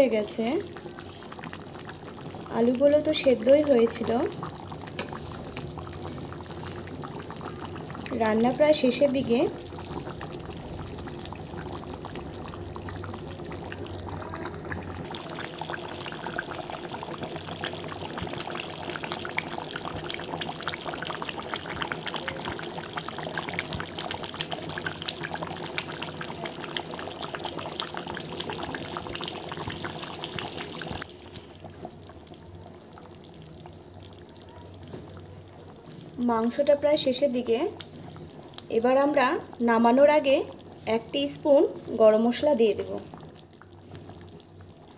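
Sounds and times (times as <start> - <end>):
curry bubbling in a pan: 0.0 - 44.9.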